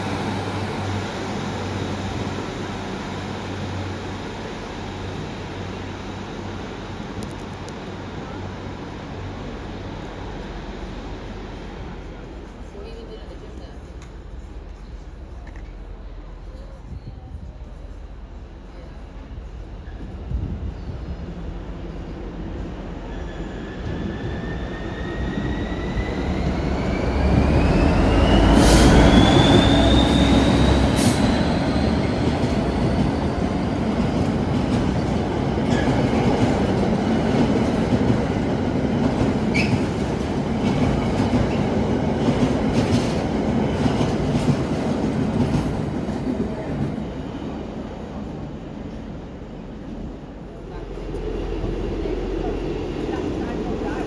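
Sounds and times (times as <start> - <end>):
train high whine: 0.0 - 54.0
train wheels rumbling on rail: 0.0 - 54.0.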